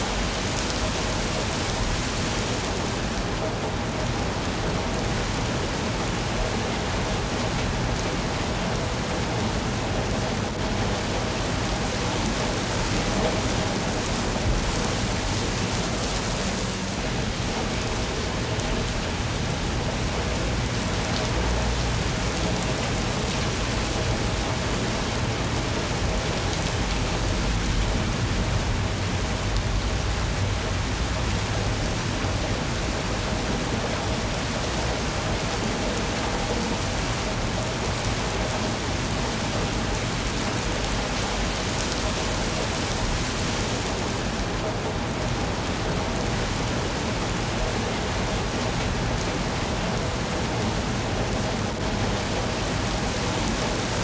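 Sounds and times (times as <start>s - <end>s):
rain pattering on surfaces: 0.0s - 54.0s.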